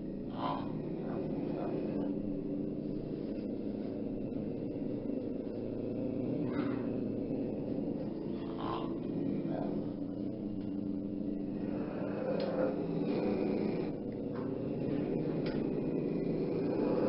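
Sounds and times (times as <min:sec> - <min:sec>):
tiger growling: 0:00.0 - 0:17.0.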